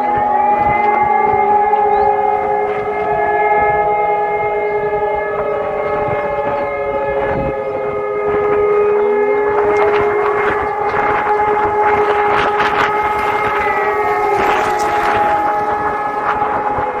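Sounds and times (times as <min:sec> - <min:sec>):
rising siren tone: 0:00.0 - 0:17.0
siren wailing: 0:00.0 - 0:17.0
steady siren tone: 0:00.0 - 0:17.0.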